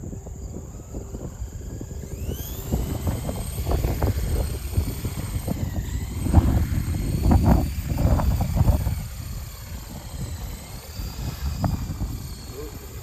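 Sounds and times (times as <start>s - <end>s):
low wind buffeting: 0.0s - 13.0s
rc helicopter motor whine: 0.0s - 13.0s.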